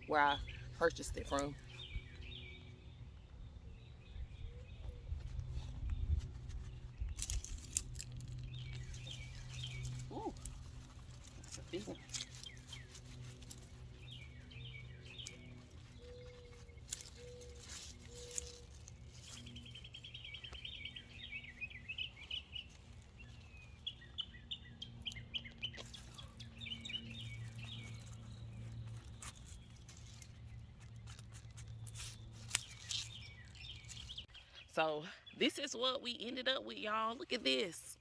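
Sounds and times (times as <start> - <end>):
songbirds chirping and trilling: 0.0 - 38.0.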